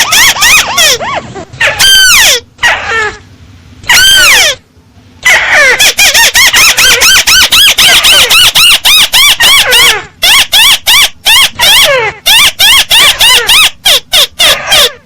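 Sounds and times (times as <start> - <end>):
crake squealing call: 0.0 - 3.1, 5.2 - 15.0.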